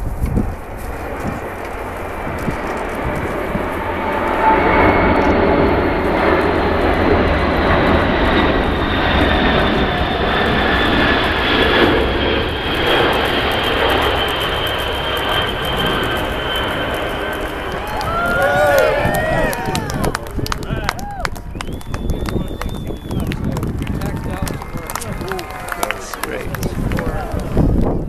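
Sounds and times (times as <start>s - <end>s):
jet engine whine: 0.0s - 28.0s
jet engines roaring: 0.0s - 28.0s.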